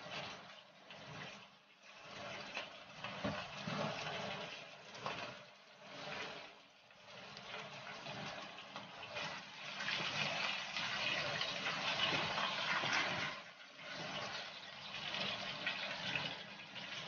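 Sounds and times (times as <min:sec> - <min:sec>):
fish frying in hot oil: 0:00.0 - 0:05.8, 0:06.5 - 0:17.0.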